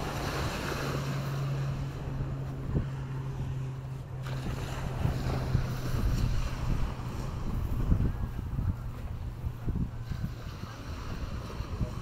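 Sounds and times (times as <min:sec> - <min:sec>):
low engine hum: 0:00.0 - 0:12.0
waves washing in: 0:00.0 - 0:12.0
wind buffeting microphone: 0:00.0 - 0:12.0.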